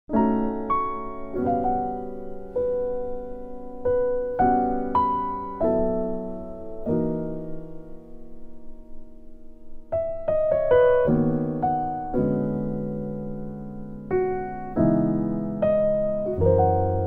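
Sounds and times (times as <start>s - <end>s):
gentle piano music: 0.1s - 17.0s.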